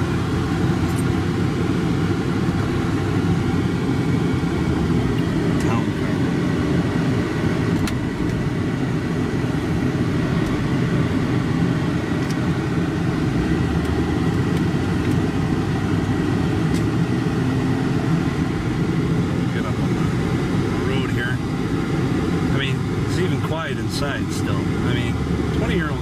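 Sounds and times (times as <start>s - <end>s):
car cabin engine hum: 0.0s - 26.0s.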